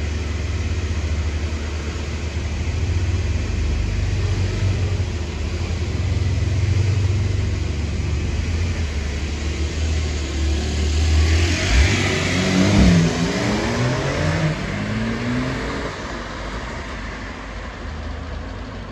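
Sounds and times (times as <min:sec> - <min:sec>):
car engine accelerating: 0:00.0 - 0:18.9.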